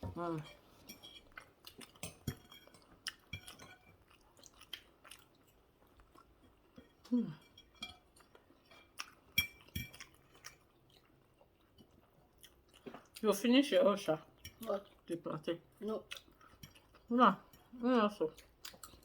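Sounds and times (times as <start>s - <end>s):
people chewing: 0.0s - 19.0s.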